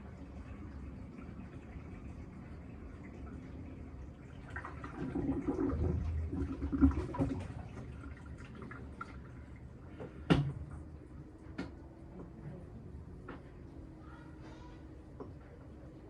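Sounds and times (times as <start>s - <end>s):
water sloshing in washing machine: 0.0s - 13.7s.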